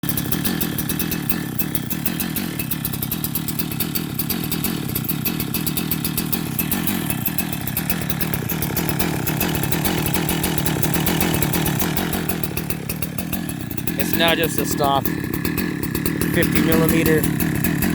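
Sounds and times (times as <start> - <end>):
chainsaw running: 0.0 - 17.9.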